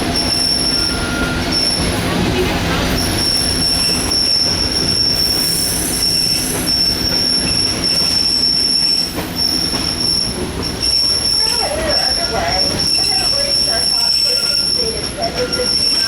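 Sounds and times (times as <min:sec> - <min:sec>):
train wheels rumbling on rail: 0:00.0 - 0:16.0
high-pitched wheel squeal: 0:02.9 - 0:16.0.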